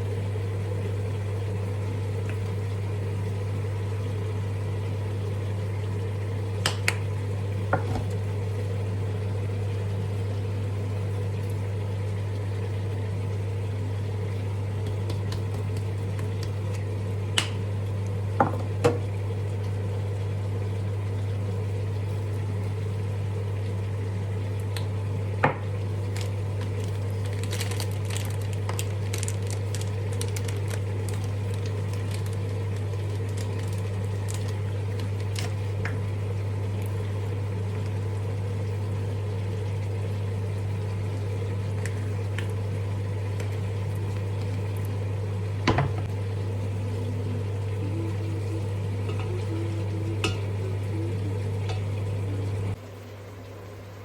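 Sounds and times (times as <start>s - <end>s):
kitchen appliance humming: 0.0s - 54.0s.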